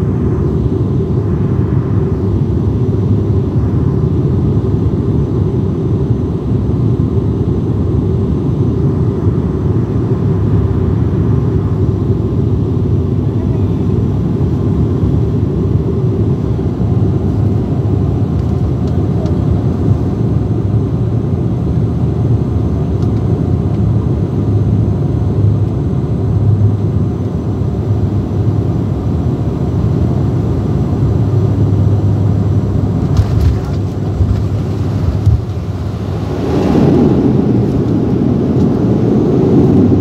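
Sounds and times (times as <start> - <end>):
airliner engines rumbling in cabin: 0.0 - 40.0.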